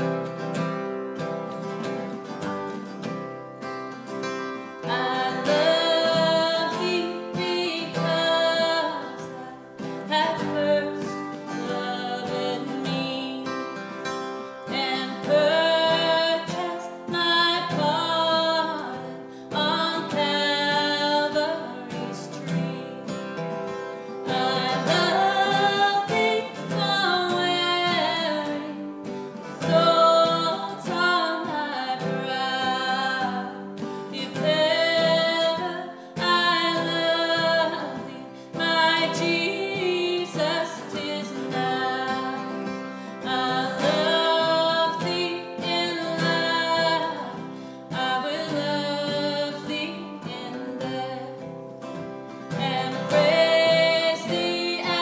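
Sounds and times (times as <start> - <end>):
acoustic guitars playing: 0.0 - 55.0
woman singing a worship song: 4.8 - 23.4, 24.0 - 51.6, 52.5 - 55.0.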